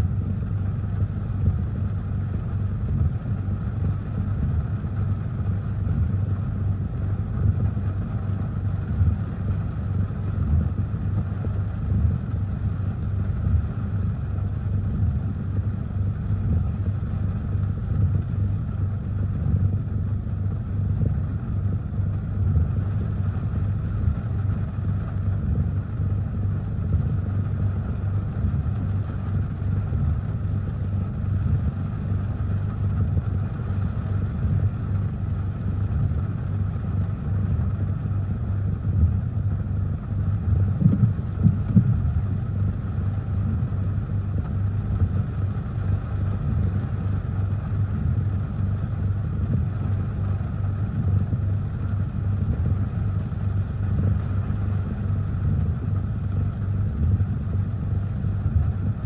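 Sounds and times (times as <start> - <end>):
wind buffeting car: 0.1 - 59.0.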